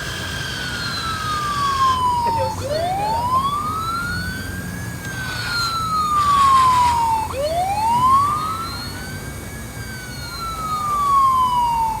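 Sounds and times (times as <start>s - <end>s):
toy fire truck siren wailing: 0.0s - 12.0s.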